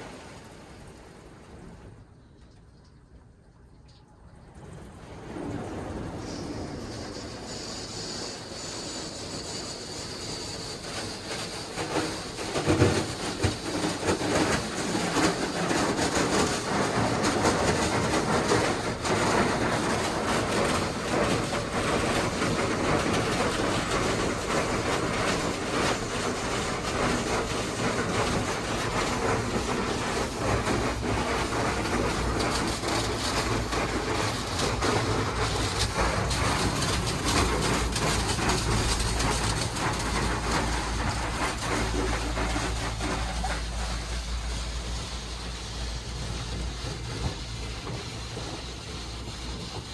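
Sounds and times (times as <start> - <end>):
car wash rushing and clattering: 4.4 - 49.9.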